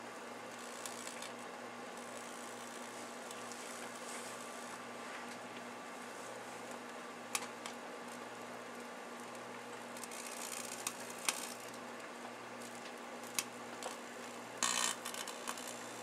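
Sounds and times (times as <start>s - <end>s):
microwave electrical hum: 0.0s - 16.0s.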